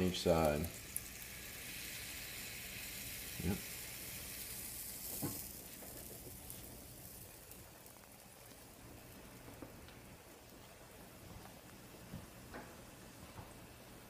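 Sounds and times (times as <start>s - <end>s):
batter sizzling in waffle iron: 0.0s - 14.0s.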